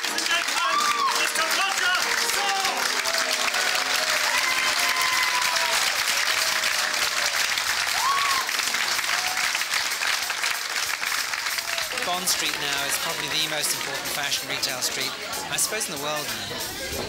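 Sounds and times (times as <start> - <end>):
voices over clapping: 0.0 - 15.5
crowd applauding: 0.0 - 16.6.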